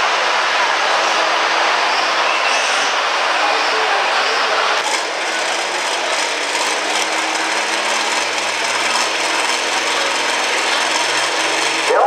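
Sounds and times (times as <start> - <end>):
diesel truck engine at full throttle: 0.0 - 12.0.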